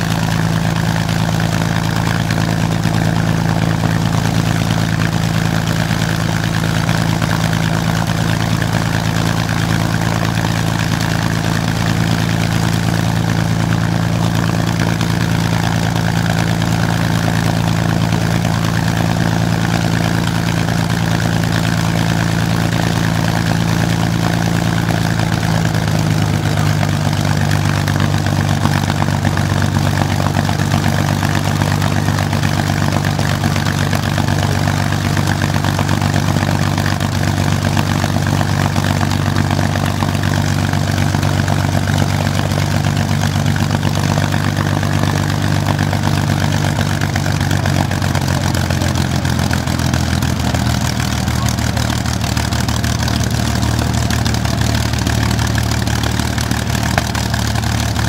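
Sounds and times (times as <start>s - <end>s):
aero engine running steadily: 0.0s - 58.0s.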